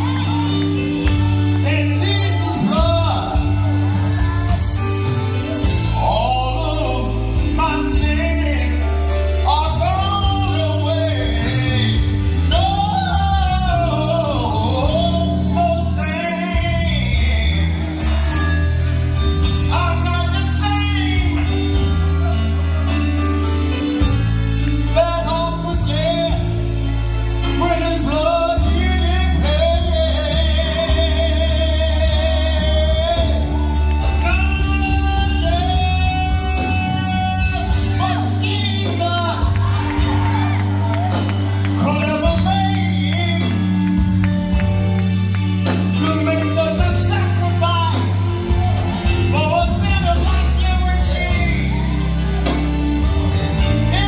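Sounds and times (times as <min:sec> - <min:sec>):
low bass notes: 0:00.0 - 0:54.0.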